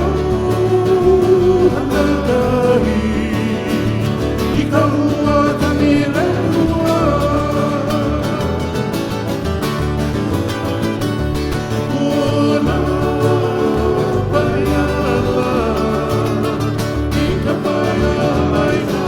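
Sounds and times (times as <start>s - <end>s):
bass line: 0.0s - 19.0s
plucked acoustic guitars: 0.0s - 19.0s.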